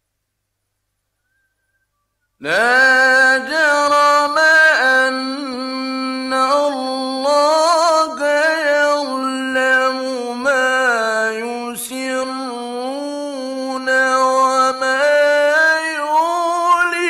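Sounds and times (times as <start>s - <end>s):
man chanting melodically: 2.4s - 17.0s.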